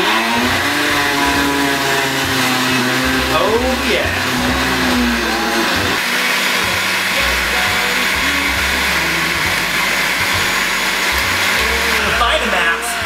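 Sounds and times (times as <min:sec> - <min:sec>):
blender running: 0:00.0 - 0:13.0.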